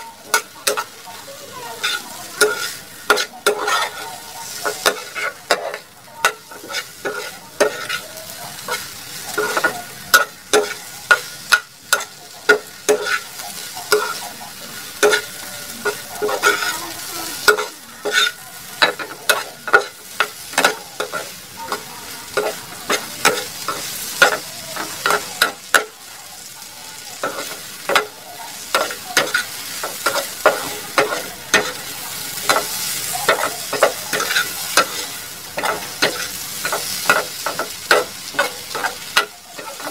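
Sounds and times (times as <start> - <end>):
spatula scraping and tapping pan: 0.0 - 1.1, 1.7 - 26.1, 26.9 - 39.9
okra sizzling in a pan: 0.0 - 39.9.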